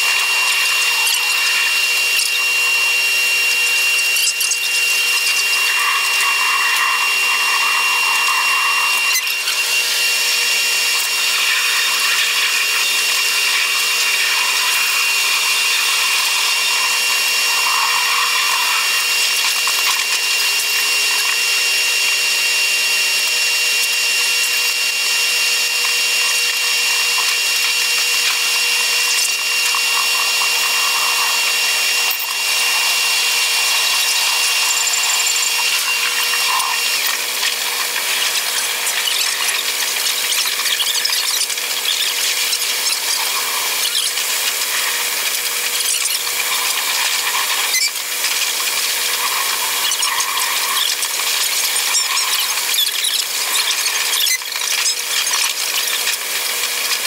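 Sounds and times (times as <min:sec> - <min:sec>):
thin steady whine: 0:00.0 - 0:54.1.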